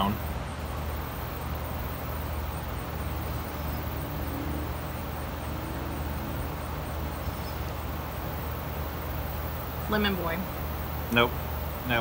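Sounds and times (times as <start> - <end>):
faint high-pitched ticking: 0.0 - 12.0
low hum and rumble: 0.0 - 12.0.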